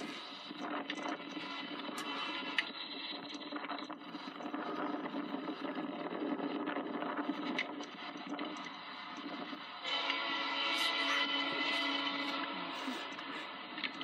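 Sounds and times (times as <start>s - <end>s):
diesel locomotive engines humming: 0.0s - 14.0s.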